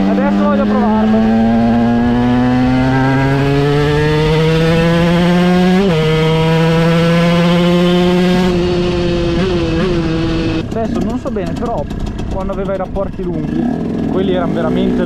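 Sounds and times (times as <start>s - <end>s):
two-stroke engine accelerating: 0.0s - 15.0s.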